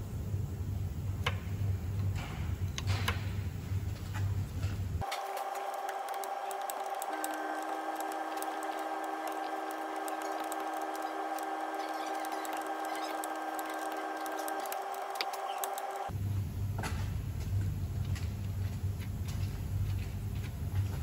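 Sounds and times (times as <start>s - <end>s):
steady multi-tone hum: 0.0s - 21.0s.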